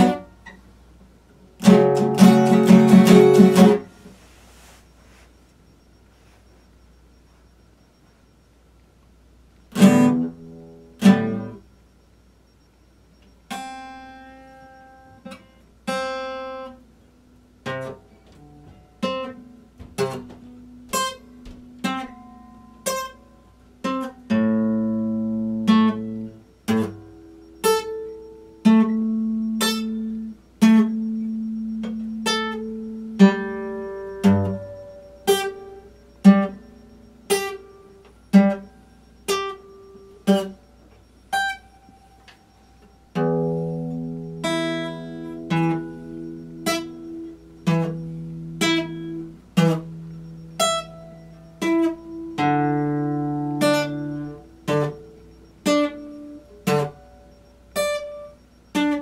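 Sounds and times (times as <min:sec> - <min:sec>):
acoustic guitar plucked notes: 0:00.0 - 0:04.1, 0:09.7 - 0:11.7, 0:13.5 - 0:59.0.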